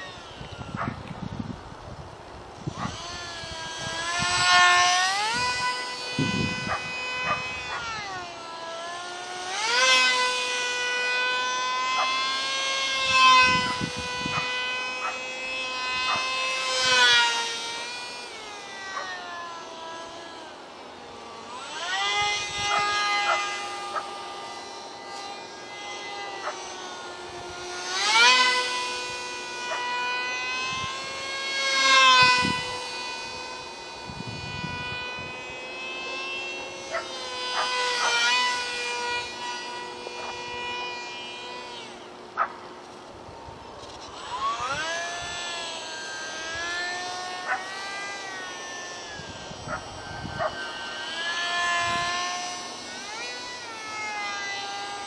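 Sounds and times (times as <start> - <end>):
small electric motor and propeller whine: 0.0 - 55.0.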